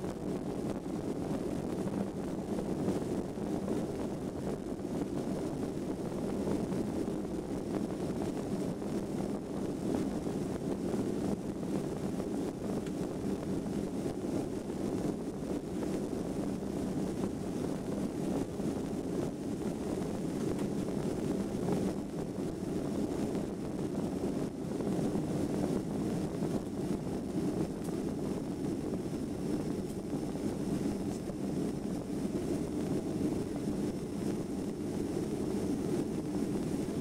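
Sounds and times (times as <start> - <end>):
jet engine rumble in cabin: 0.0 - 37.0.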